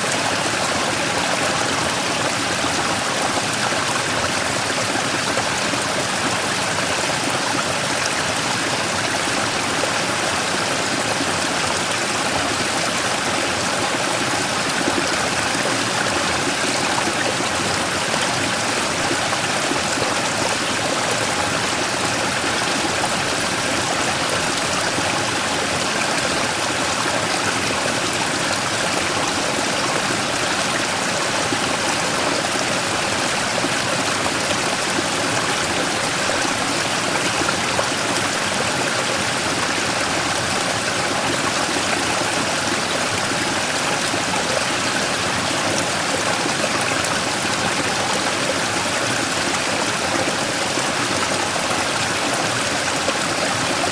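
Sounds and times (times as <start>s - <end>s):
stream rushing over rock: 0.0s - 53.9s.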